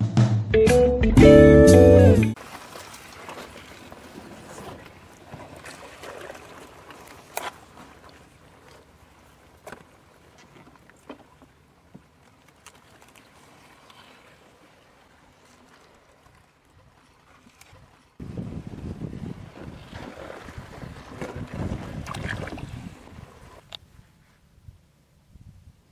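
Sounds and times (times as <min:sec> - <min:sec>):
water lapping against boat: 0:02.4 - 0:23.8.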